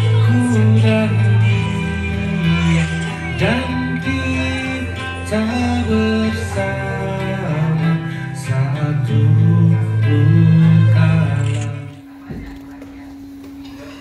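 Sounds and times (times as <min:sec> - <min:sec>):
man singing karaoke: 0:00.0 - 0:12.1
backing track with guitar and bass: 0:00.0 - 0:14.0.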